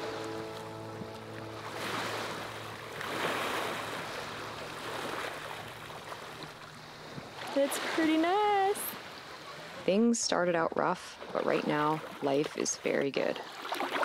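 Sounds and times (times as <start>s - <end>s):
small waves washing in: 0.0s - 10.0s, 11.0s - 14.0s.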